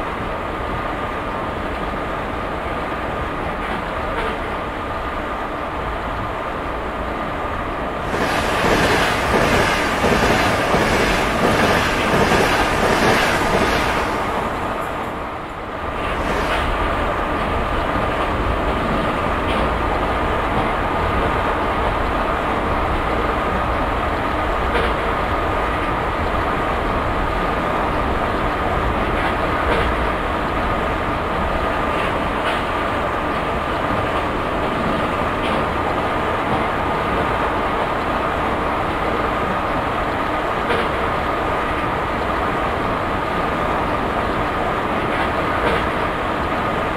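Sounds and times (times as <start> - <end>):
train rolling rumble: 0.0 - 46.9.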